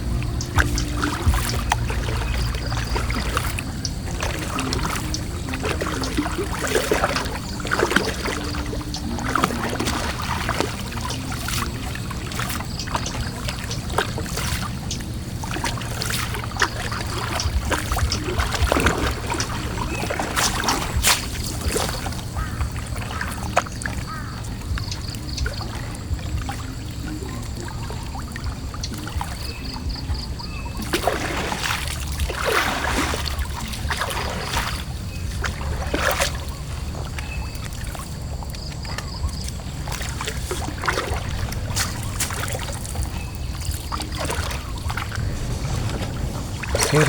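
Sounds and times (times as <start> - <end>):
low steady hum: 0.0 - 47.0
water trickling and splashing: 0.0 - 47.0.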